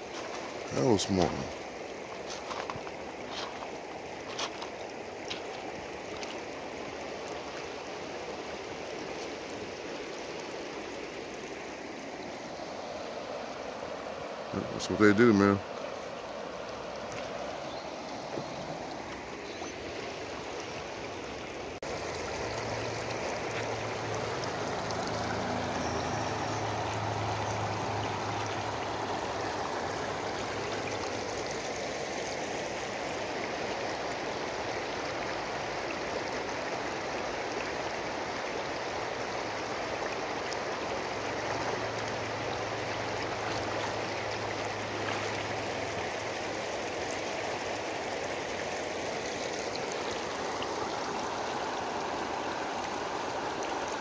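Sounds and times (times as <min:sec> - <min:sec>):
river water rushing over gravel: 0:00.0 - 0:54.0.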